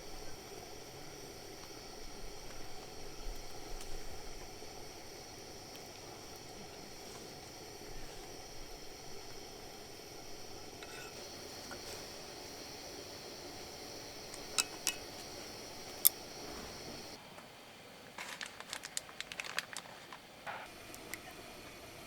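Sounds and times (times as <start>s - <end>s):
food sizzling in a pot: 0.0s - 17.2s, 20.6s - 22.0s.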